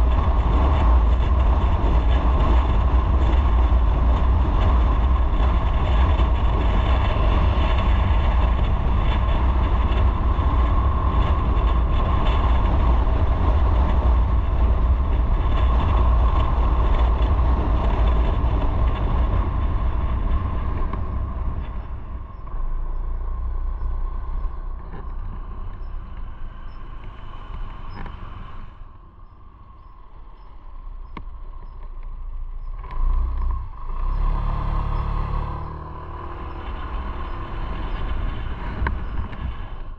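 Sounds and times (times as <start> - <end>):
motorcycle engine: 0.0 - 39.9
wind and road rumble: 0.0 - 39.9.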